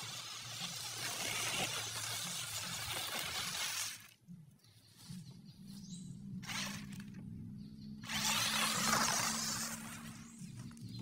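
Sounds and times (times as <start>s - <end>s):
small motor and gears humming: 0.0s - 11.0s.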